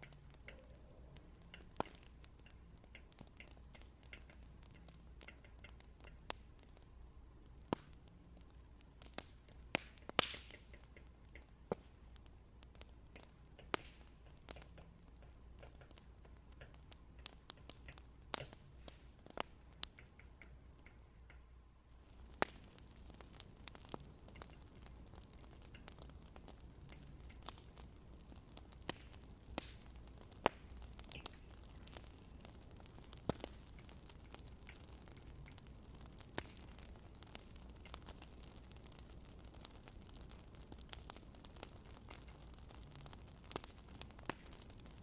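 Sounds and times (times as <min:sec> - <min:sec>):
faint steady hiss: 0:00.0 - 0:45.0
wood fire crackling and popping: 0:00.0 - 0:45.0.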